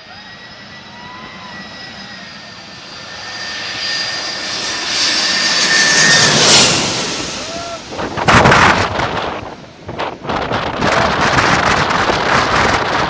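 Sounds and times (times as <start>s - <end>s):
jet airliner engines whining: 0.0s - 13.0s.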